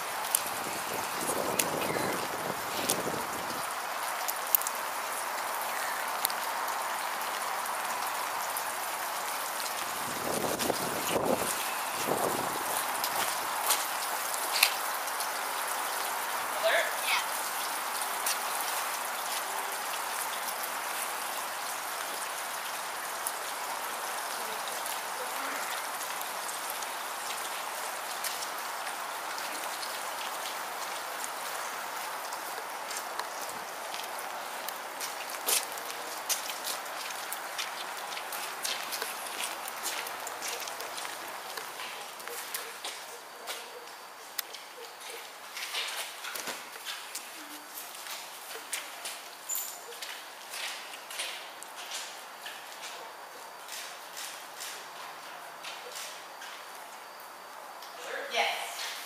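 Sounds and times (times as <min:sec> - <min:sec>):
raindrop ticks: 0:00.0 - 0:58.0
rain on wet pavement: 0:00.0 - 0:59.0.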